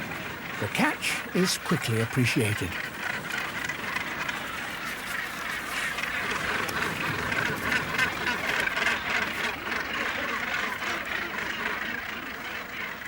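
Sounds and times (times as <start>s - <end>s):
gannets calling in a colony: 0.0s - 13.0s.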